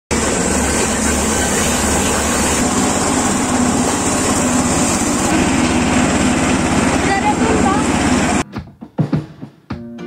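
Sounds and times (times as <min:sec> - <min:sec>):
stationary engine running: 0:00.1 - 0:08.4.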